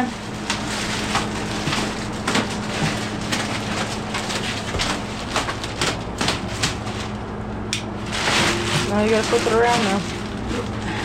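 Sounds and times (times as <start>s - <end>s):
low equipment hum: 0.0s - 11.0s.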